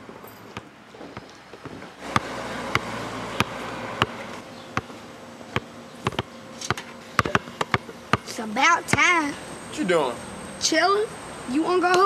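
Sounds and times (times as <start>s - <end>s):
buzzing hum: 0.0s - 11.8s.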